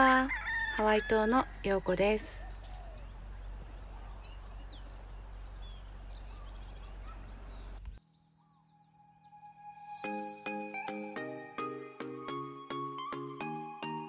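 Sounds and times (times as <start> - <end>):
birds chirping and whistling: 0.0 - 11.3.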